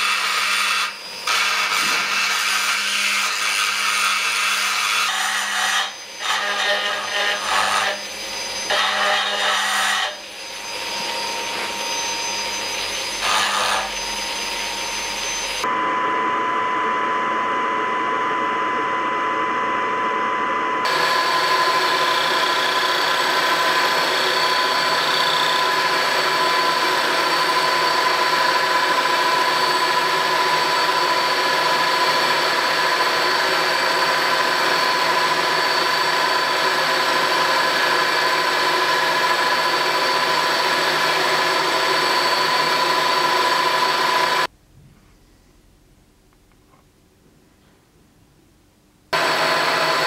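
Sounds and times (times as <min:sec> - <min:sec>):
milling machine whine: 0:00.0 - 0:44.5, 0:49.2 - 0:50.0.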